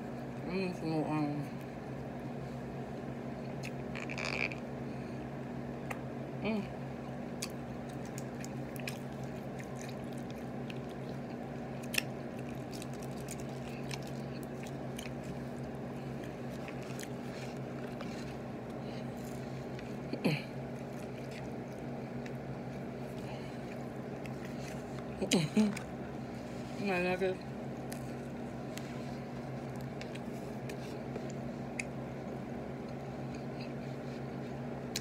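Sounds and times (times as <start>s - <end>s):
steady low hum: 0.0s - 35.0s
person chewing: 3.4s - 4.6s, 7.0s - 26.7s, 27.7s - 35.0s.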